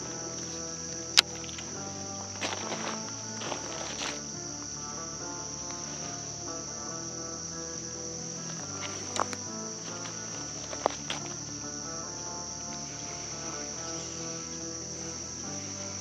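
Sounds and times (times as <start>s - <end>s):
insects calling: 0.0s - 16.0s
quiet background music: 0.0s - 16.0s.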